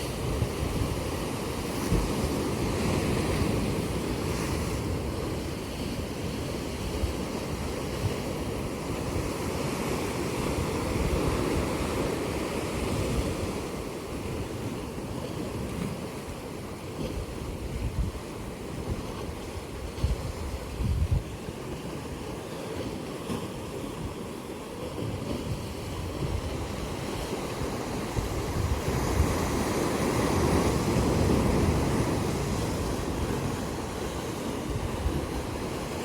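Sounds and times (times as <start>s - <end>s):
ocean waves breaking on beach: 0.0s - 36.0s.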